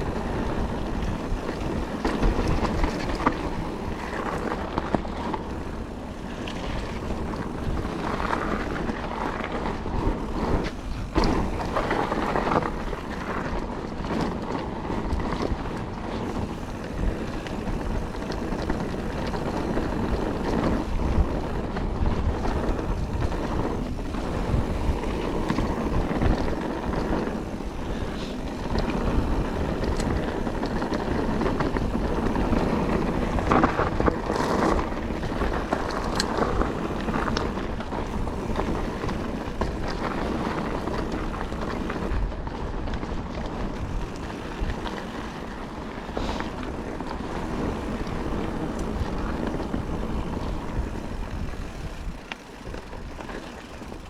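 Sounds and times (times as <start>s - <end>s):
bike rattling and knocking: 0.0s - 54.0s
bike tyres rolling on dirt and stones: 0.0s - 54.0s
wind on microphone: 0.0s - 54.0s.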